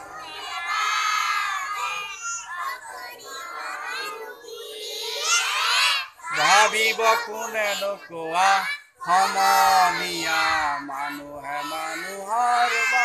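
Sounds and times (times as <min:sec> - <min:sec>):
children's choir singing unaccompanied: 0:00.0 - 0:13.0.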